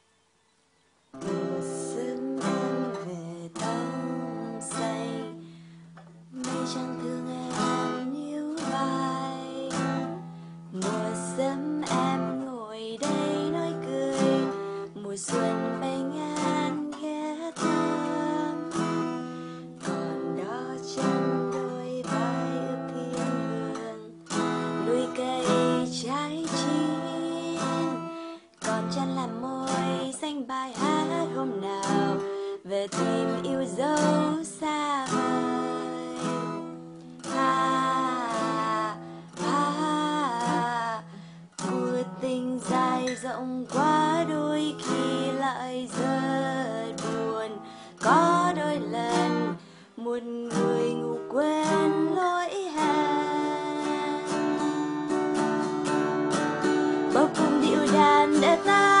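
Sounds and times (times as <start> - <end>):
acoustic guitar strumming chords: 1.1 - 59.0.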